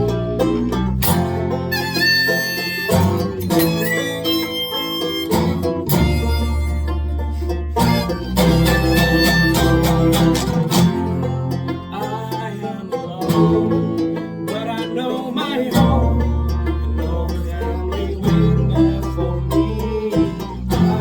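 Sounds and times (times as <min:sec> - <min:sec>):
banjo picking: 0:00.0 - 0:21.0
bass line: 0:00.0 - 0:21.0
guitar picking: 0:00.0 - 0:21.0.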